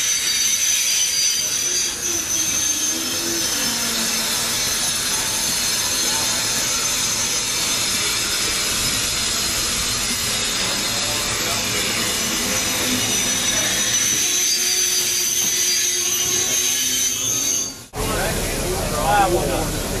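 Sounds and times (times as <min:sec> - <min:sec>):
thin high whistling tone: 0:00.0 - 0:17.9
steam locomotive hissing: 0:00.0 - 0:20.0.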